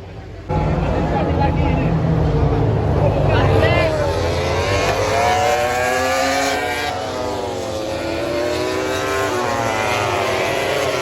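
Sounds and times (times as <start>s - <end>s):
race motorcycles passing: 0.1s - 11.0s.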